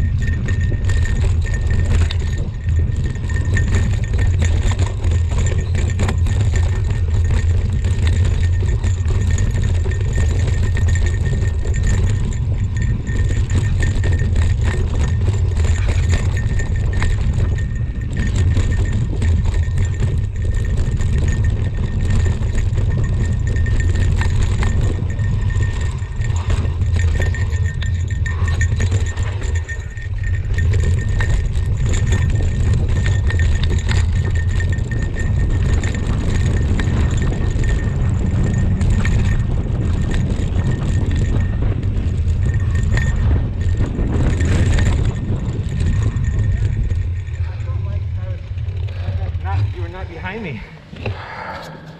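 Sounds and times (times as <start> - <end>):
wind buffeting microphone: 0.0 - 51.2.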